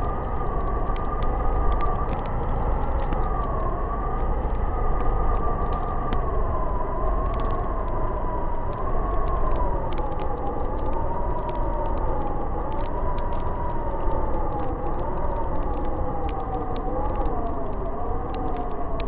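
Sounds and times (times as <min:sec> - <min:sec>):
wind howling and whistling: 0:00.0 - 0:19.0.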